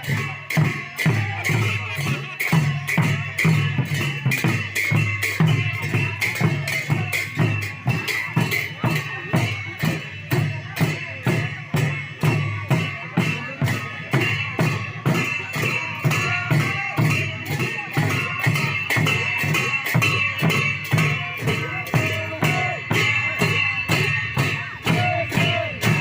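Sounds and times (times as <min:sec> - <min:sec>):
clashing cymbals: 0:00.0 - 0:26.0
drum beat: 0:00.0 - 0:26.0.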